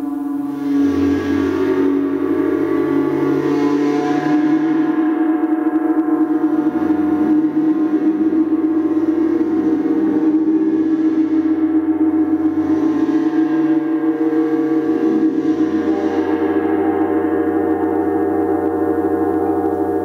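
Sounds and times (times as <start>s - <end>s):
large gong ringing: 0.0s - 20.0s.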